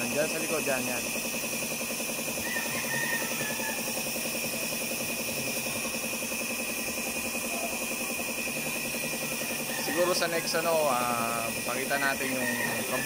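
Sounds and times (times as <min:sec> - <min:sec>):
motor running with whine: 0:00.0 - 0:13.0.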